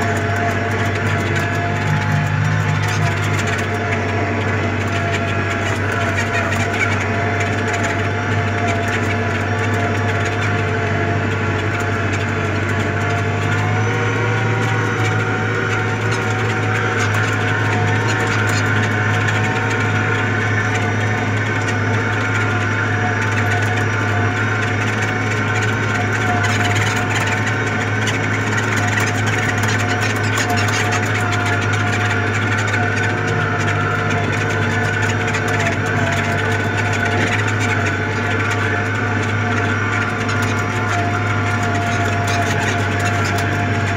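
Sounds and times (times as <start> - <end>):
tractor engine under load: 0.0 - 43.9.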